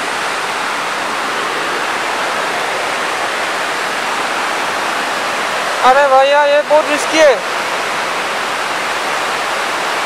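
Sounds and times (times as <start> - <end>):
river rushing over boulders: 0.0 - 10.0.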